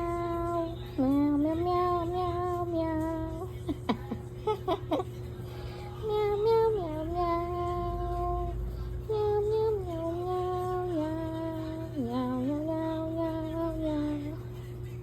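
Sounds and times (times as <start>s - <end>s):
person singing slow melody: 0.0s - 15.0s.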